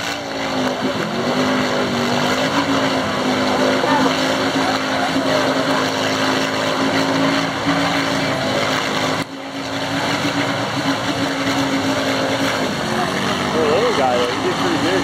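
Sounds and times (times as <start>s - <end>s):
atv engine running hard: 0.0s - 15.0s
tyres churning through mud: 0.0s - 15.0s.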